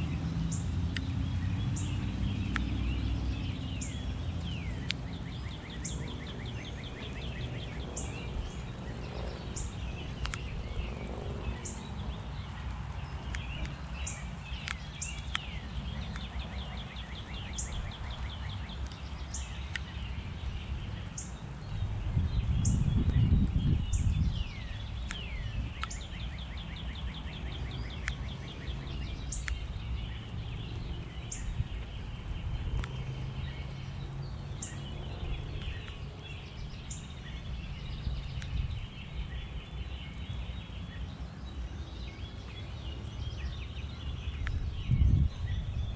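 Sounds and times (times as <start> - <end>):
songbirds chirping and trilling: 0.0 - 45.9.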